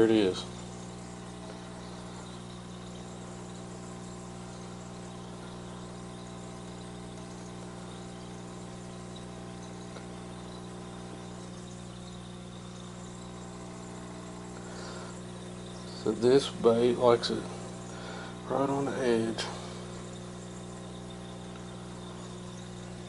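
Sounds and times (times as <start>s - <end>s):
low hum with steady tones: 0.0s - 23.0s.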